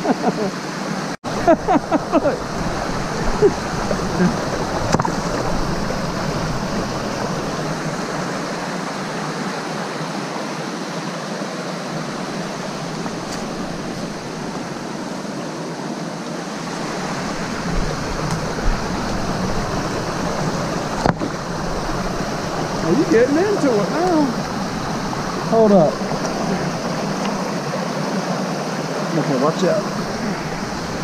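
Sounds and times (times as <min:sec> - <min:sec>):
creek water rushing over stones: 0:00.0 - 0:31.0.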